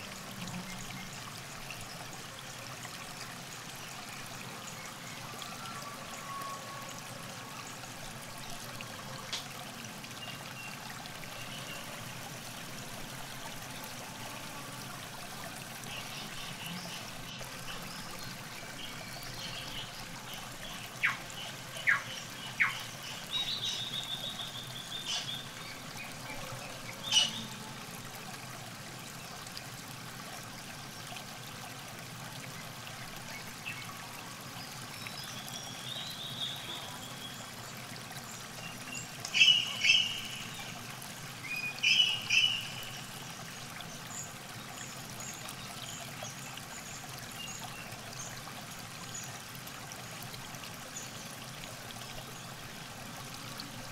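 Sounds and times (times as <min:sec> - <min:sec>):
river water trickling: 0:00.0 - 0:53.9
songbirds chirping: 0:00.2 - 0:28.5, 0:32.4 - 0:53.8.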